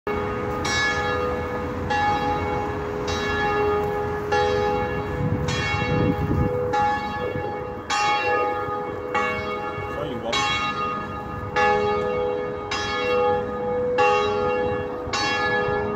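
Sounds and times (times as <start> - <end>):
church bells ringing: 0.1 - 15.9.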